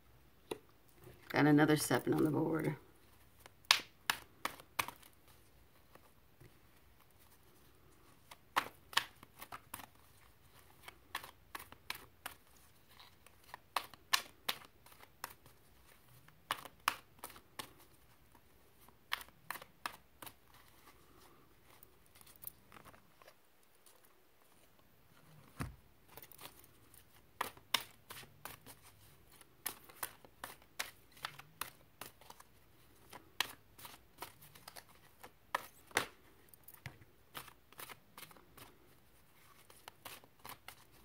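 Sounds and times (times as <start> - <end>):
cards being shuffled: 2.0 - 41.0.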